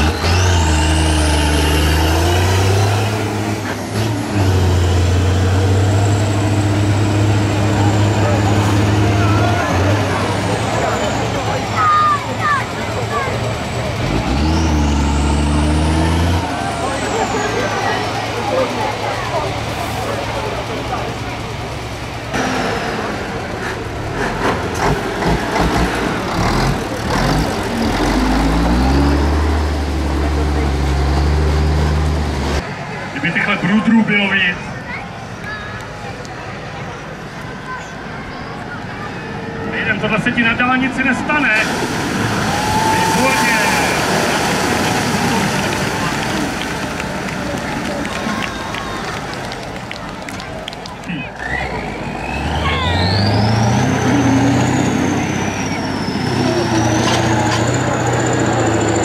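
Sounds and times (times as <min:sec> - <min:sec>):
tractor diesel engine running hard: 0:00.0 - 0:38.7, 0:40.9 - 0:59.0.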